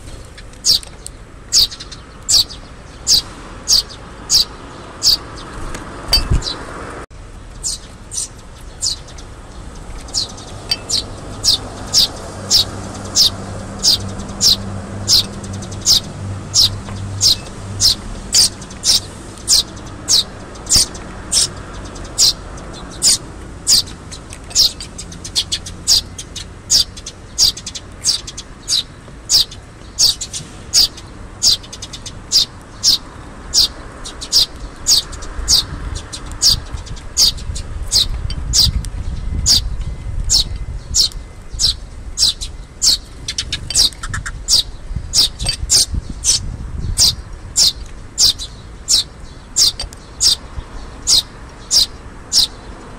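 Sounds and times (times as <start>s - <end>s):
young sparrow chirping: 0.0s - 6.7s, 7.5s - 52.8s.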